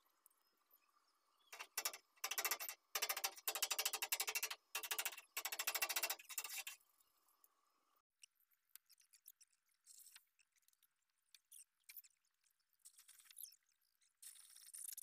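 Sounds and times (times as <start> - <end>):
faint clicks and scratches: 1.5 - 15.0.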